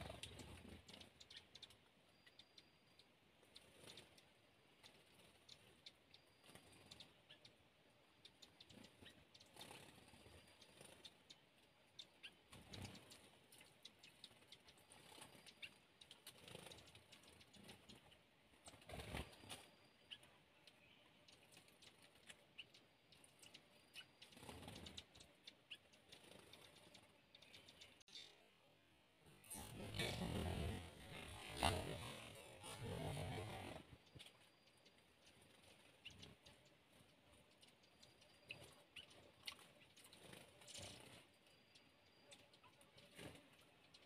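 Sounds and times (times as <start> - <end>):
woodland birdsong: 0.0 - 44.0.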